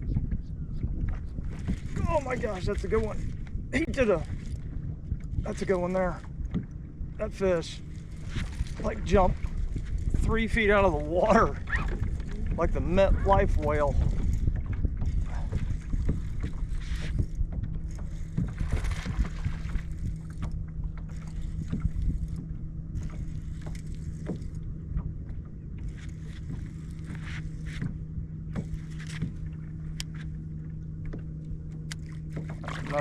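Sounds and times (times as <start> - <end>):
steady low hum: 0.0 - 33.0
water splashing: 1.5 - 4.7, 7.2 - 33.0.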